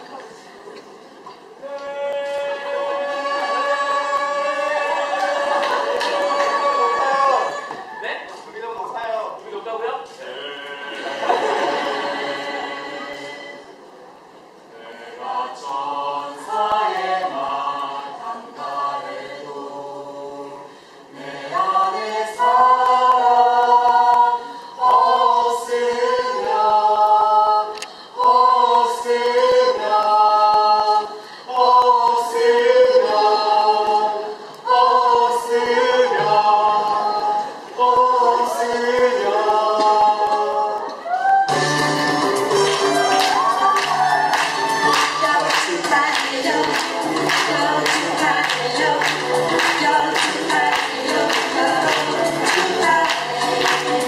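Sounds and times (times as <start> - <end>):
small choir singing: 1.8 - 7.9, 10.3 - 13.8, 14.7 - 54.0.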